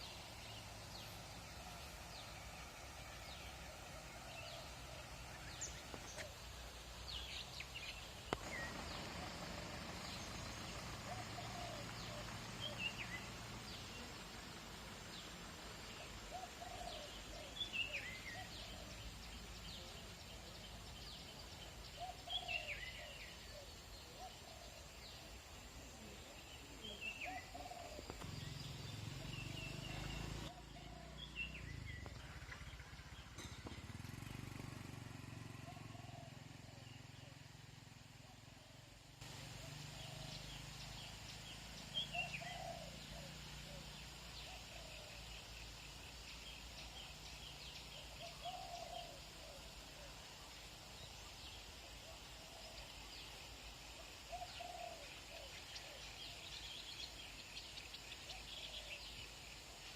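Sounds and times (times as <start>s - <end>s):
birds chirping: 0.0s - 59.9s
countryside ambience: 0.0s - 59.9s
faint small engine hum: 0.0s - 59.9s.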